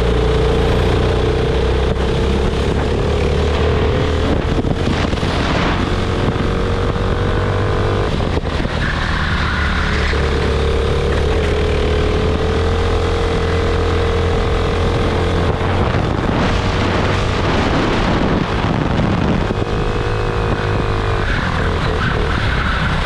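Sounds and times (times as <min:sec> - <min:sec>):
kart engine running hard: 0:00.0 - 0:23.0.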